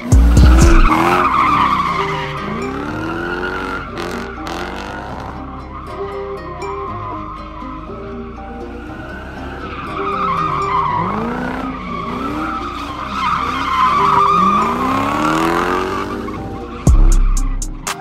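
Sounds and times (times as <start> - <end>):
car engine revving: 0.0 - 5.8, 8.6 - 18.0
tyres squealing: 0.0 - 17.7
background music with beat: 0.0 - 18.0.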